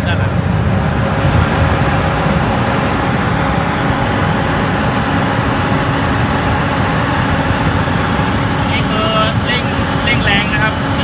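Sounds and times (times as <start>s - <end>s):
gas burner and blower rushing: 0.0s - 11.0s.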